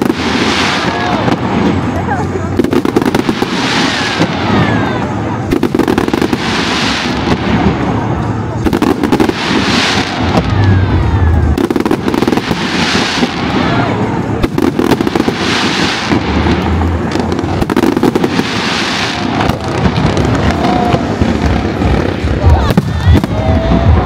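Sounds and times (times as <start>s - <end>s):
fireworks bangs and crackling: 0.0s - 24.0s
hissing crackling sparkle: 0.0s - 24.0s.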